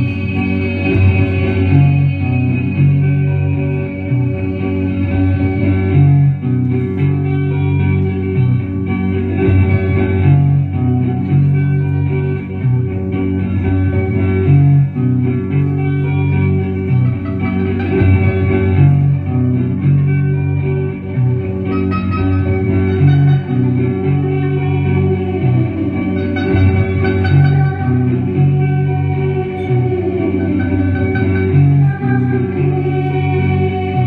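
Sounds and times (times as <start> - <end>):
bass line: 0.0 - 34.0
guitar playing repeating melody: 0.0 - 34.0.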